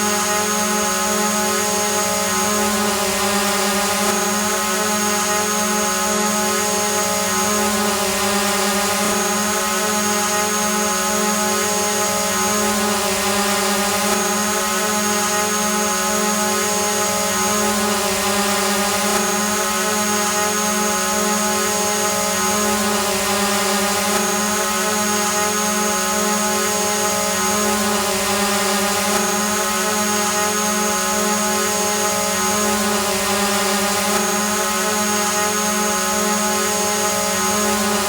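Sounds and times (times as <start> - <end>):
drone propellers whirring: 0.0 - 38.0.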